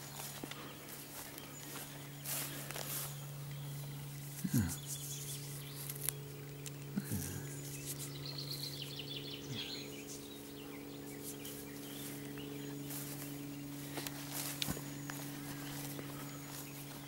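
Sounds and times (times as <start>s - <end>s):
grass and plants rustling: 0.0s - 17.0s
small bird chirping: 0.0s - 17.0s
steady low hum: 0.0s - 17.0s.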